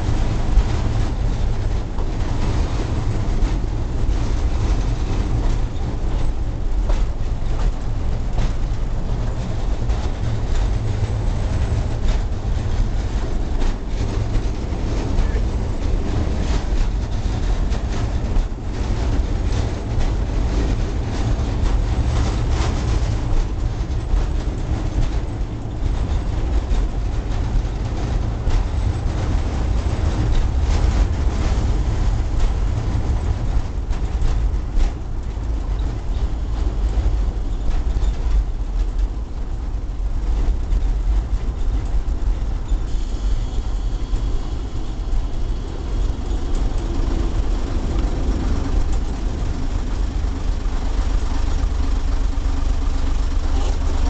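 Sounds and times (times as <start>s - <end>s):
railbus rumbling on track: 0.0s - 54.0s.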